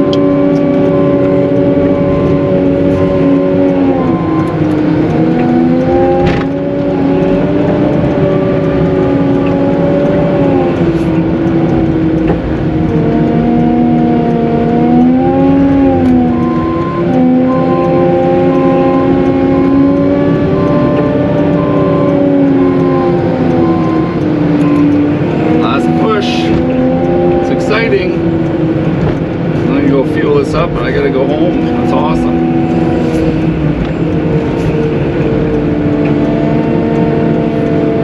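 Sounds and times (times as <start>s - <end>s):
loader engine whining: 0.0s - 38.0s.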